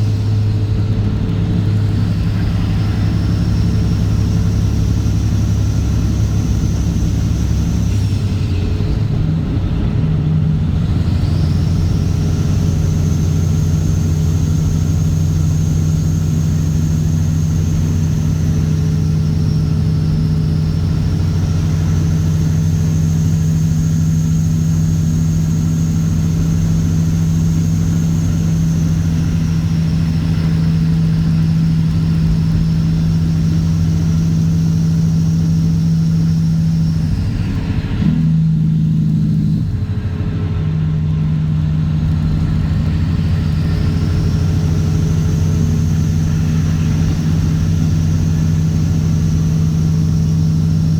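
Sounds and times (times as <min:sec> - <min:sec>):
diesel truck engine: 0:00.0 - 0:50.9
high whine: 0:00.0 - 0:50.9.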